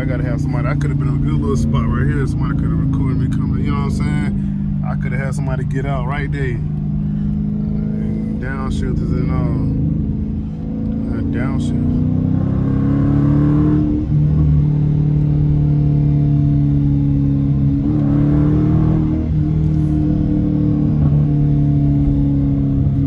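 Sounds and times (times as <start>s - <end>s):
car engine droning loudly: 0.0s - 23.0s.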